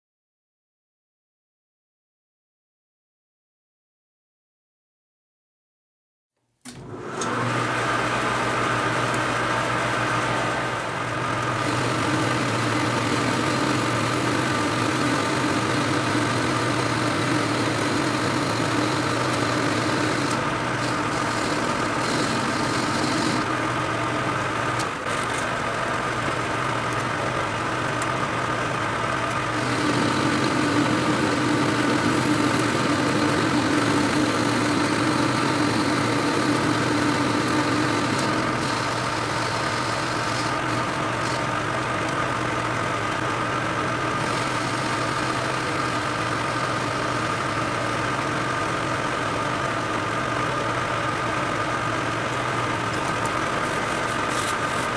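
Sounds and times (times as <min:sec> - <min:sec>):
metal lathe cutting metal: 0:07.2 - 0:54.9.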